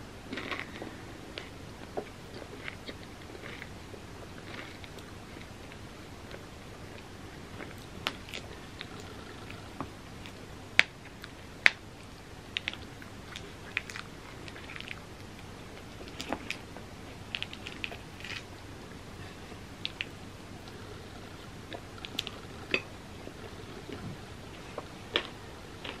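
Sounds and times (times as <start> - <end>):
chewing and mouth sounds: 0.3 - 26.0.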